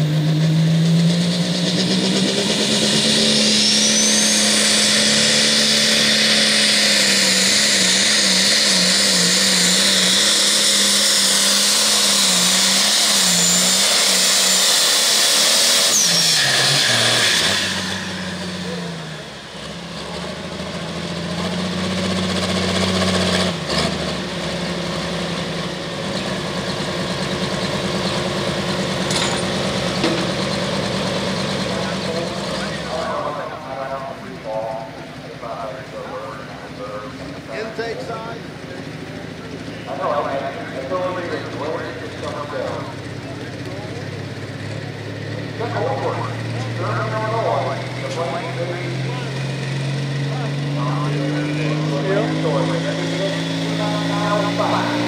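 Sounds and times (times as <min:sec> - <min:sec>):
diesel tractor engine under load: 0:00.0 - 0:55.0.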